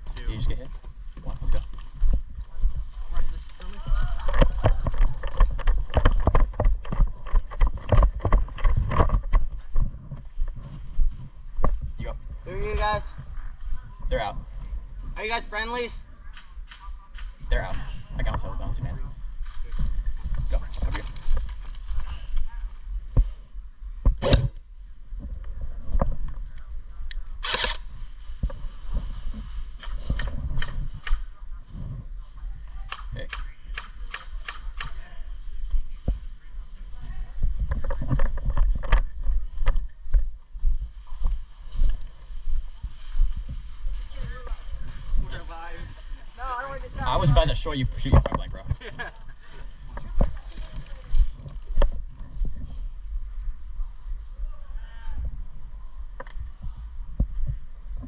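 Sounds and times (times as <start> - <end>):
low rumble of movement: 0.0 - 15.2, 16.0 - 58.0
wind buffeting microphone: 0.0 - 15.2, 17.3 - 58.0.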